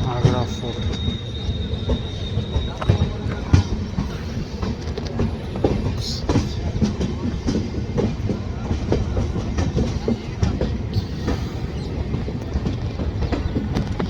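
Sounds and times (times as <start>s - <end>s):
train rumble: 0.0s - 14.0s
wheels clattering over rail joints: 0.0s - 14.0s.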